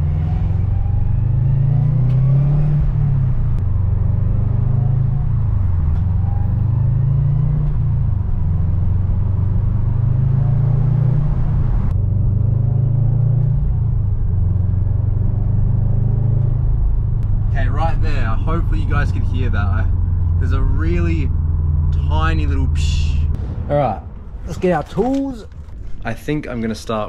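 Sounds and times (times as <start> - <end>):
car engine accelerating through gears: 0.0 - 23.3.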